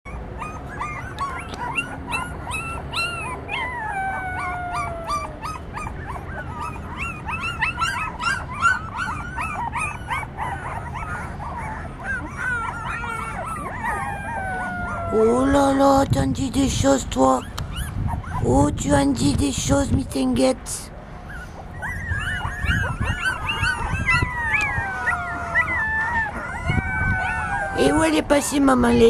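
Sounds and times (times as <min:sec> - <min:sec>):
puppies yipping and whimpering: 0:00.1 - 0:15.8, 0:17.3 - 0:18.6, 0:21.1 - 0:29.0
puppy whining: 0:00.1 - 0:15.8, 0:17.3 - 0:18.7, 0:21.2 - 0:29.0.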